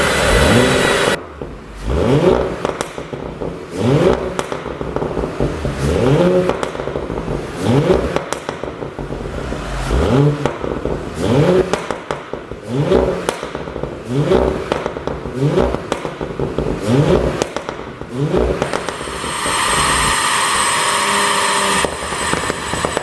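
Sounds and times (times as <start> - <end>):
car exhaust revving: 0.0 - 23.0
exhaust crackles and pops: 0.0 - 23.0.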